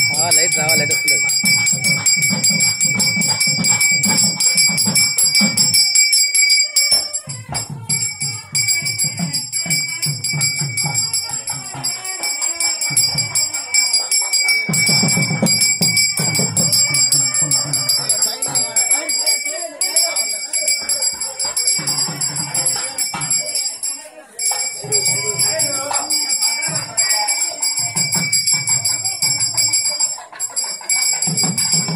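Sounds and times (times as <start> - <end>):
low voices: 0.0 - 31.9
small hand bell ringing: 0.0 - 31.9.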